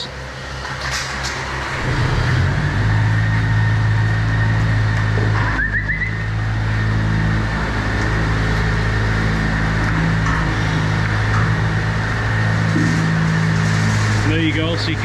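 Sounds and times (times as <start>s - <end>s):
feed dispensers rumbling: 0.0s - 5.6s, 6.2s - 15.0s.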